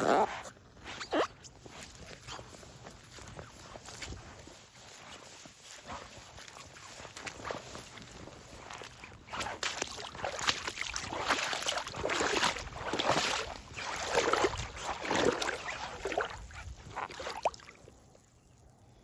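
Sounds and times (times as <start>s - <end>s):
rubber boots squeaking: 0.0s - 17.6s.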